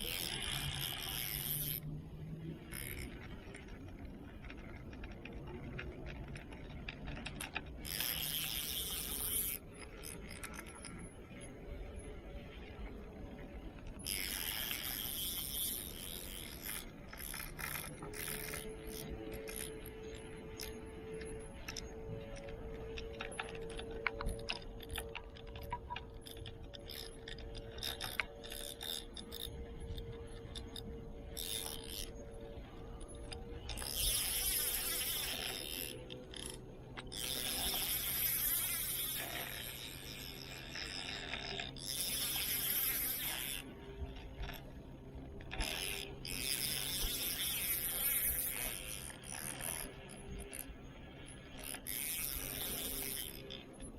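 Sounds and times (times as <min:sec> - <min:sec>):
fishing reel clicking: 0:00.0 - 0:12.0, 0:13.6 - 0:53.9.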